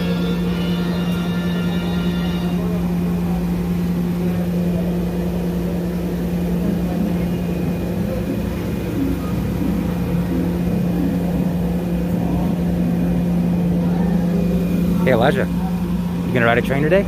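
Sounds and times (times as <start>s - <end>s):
standing train engine hum: 0.0s - 17.0s.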